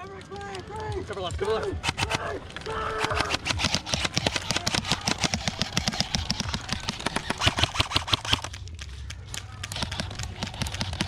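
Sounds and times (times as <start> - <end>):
airsoft guns firing on full auto: 0.0 - 11.0.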